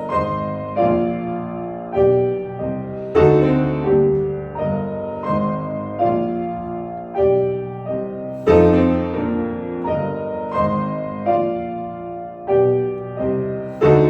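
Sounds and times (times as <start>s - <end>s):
solo classical piano: 0.0s - 14.0s.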